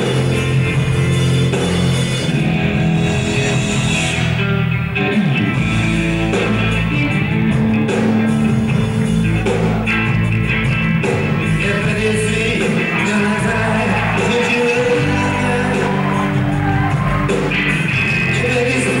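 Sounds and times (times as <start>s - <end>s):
electric guitar: 0.0s - 19.0s
rock band playing: 0.0s - 19.0s.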